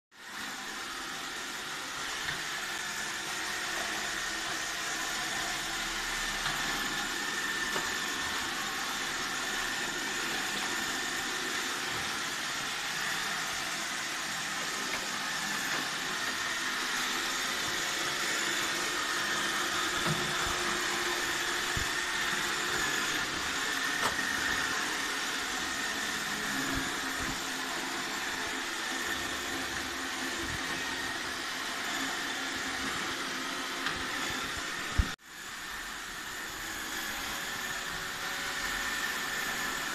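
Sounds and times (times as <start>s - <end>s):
robot vacuum whirring: 0.2s - 39.9s.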